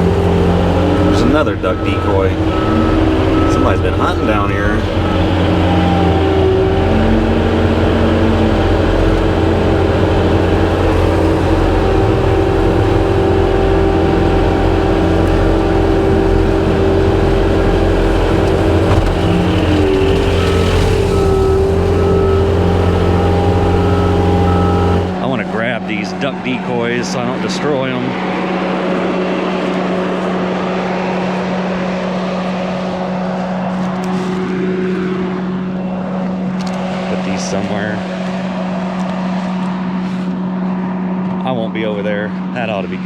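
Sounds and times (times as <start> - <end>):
diesel engine running: 0.0 - 43.0
steady whine: 0.0 - 43.0.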